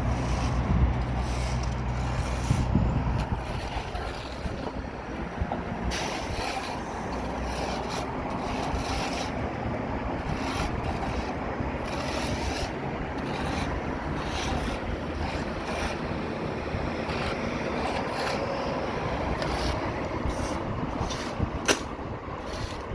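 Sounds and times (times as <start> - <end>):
short knocks and scrapes: 0.0 - 9.5, 10.2 - 22.9
construction machinery engine running: 0.0 - 22.9.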